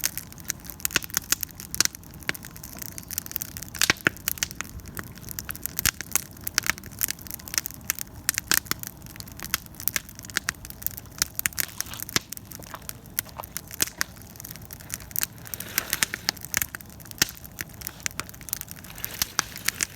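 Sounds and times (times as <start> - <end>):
campfire crackling: 0.0 - 19.9.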